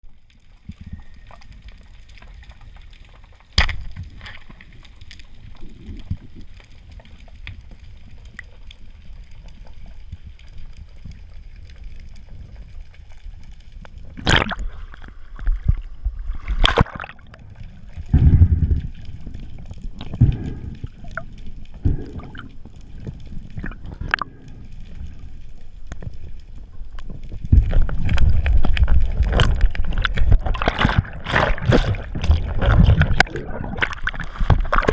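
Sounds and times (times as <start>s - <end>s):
water sloshing underwater: 0.0s - 34.9s.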